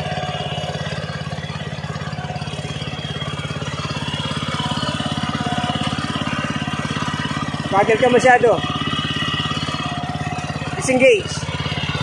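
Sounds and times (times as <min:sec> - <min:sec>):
hand tractor engine running: 0:00.0 - 0:12.0.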